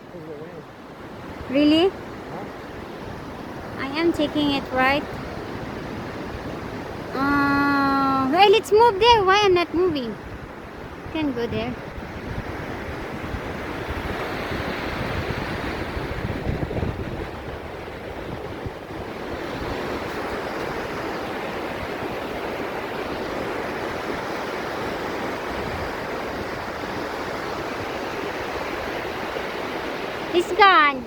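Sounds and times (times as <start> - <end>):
ocean surf washing: 0.0 - 31.0
wind gusting on microphone: 0.0 - 31.0.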